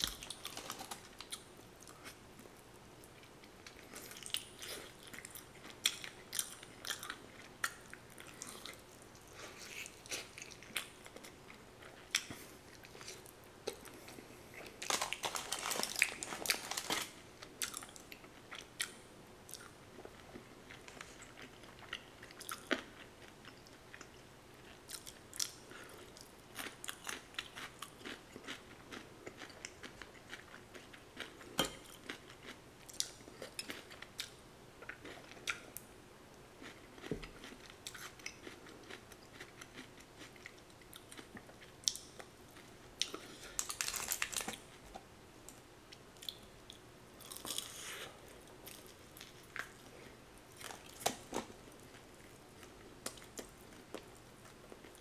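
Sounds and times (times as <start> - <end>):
person chewing crunchy food: 0.0 - 35.8, 36.6 - 45.1, 45.9 - 55.0.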